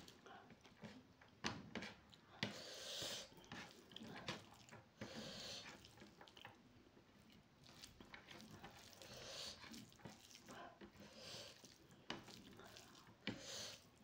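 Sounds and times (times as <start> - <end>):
wet squishing of food by fingers: 0.0 - 14.0.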